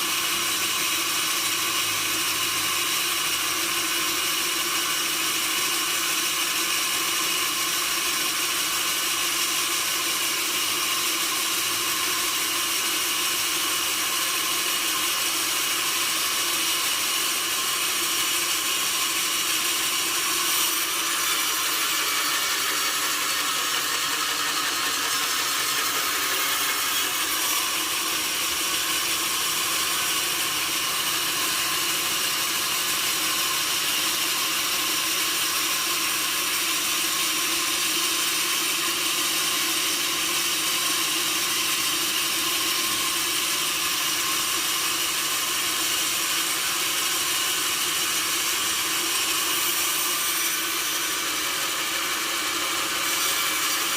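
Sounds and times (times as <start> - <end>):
saw cutting through wood: 0.0 - 53.9.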